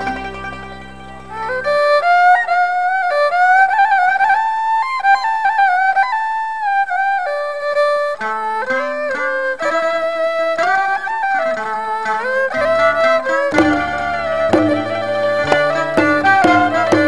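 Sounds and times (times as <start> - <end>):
bowed fiddle melody: 0.0 - 17.0
plucked zither: 0.0 - 17.0.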